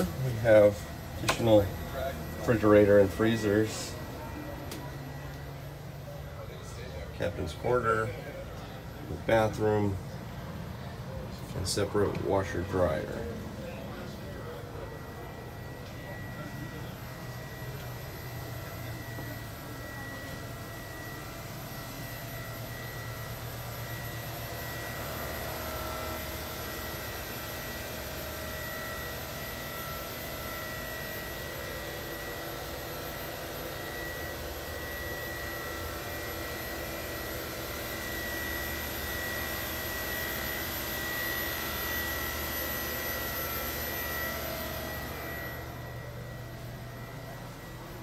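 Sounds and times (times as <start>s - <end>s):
high-pitched machinery whine: 0.0s - 48.0s
low machinery drone: 0.0s - 48.0s.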